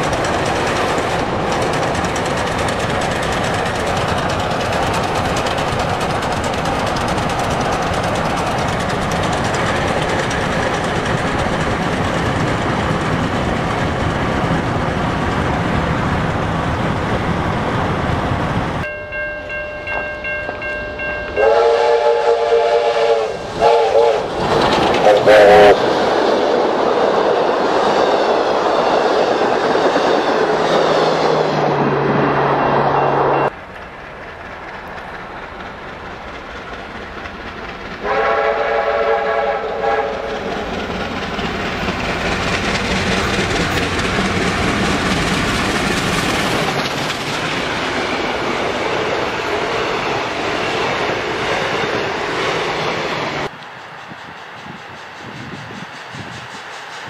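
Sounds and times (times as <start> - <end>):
train wheel and rail noise: 0.0 - 57.0.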